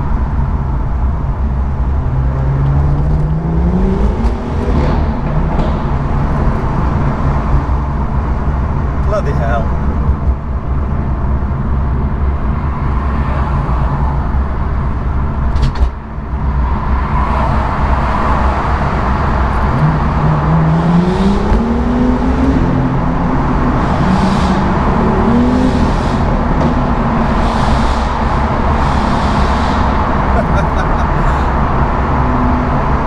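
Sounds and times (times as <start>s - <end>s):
car engine revving: 0.0s - 15.5s, 16.2s - 33.0s.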